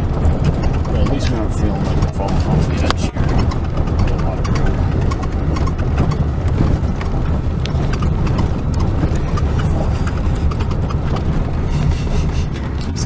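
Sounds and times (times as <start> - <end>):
tyres rattling over rocks: 0.0 - 13.0
vehicle engine rumble: 0.0 - 13.0.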